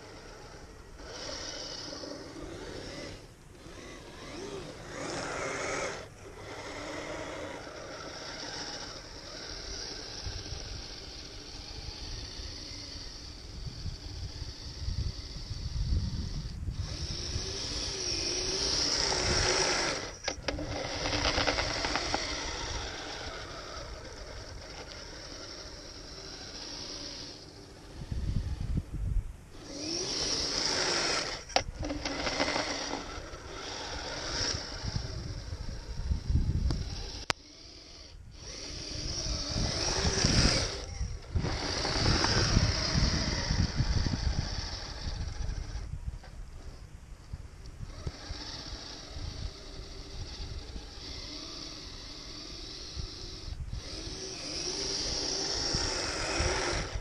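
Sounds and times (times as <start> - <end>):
gear and track rattle: 0.0 - 28.7, 29.6 - 46.8
electric motors whining: 0.0 - 57.0.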